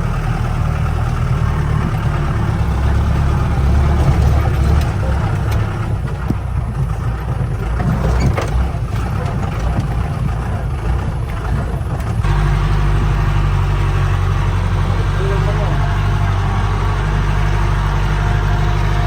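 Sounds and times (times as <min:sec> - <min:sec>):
engine rumble driving off-road: 0:00.0 - 0:19.0.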